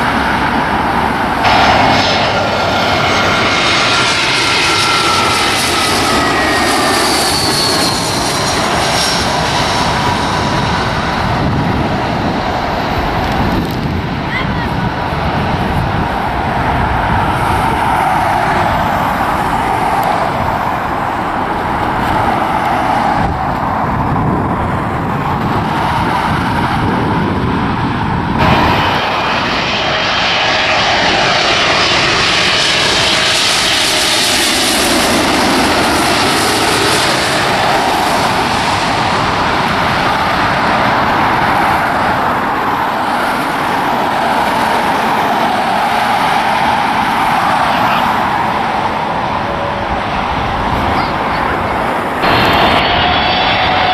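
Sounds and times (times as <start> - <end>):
airliner passing overhead: 0.0 - 53.9
jet engine noise: 0.0 - 53.9.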